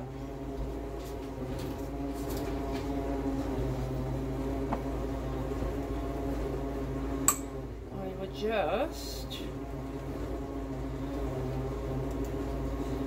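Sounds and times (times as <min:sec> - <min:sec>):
vacuum cleaner humming: 0:00.0 - 0:13.0.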